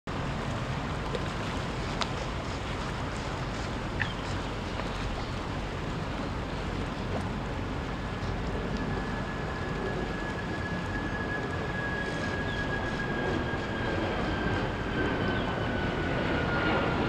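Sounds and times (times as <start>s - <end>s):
boat motor rumbling: 0.1s - 17.0s.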